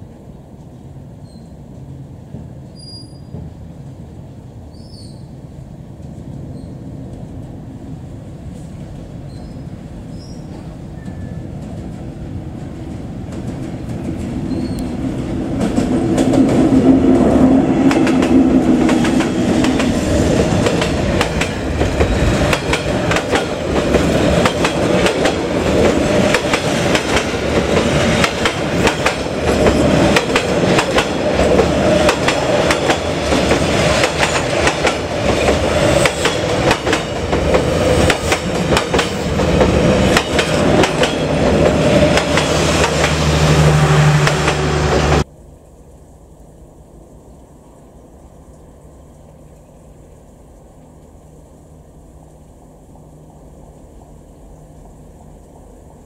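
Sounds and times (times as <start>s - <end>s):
diesel locomotive passing: 0.0s - 45.3s.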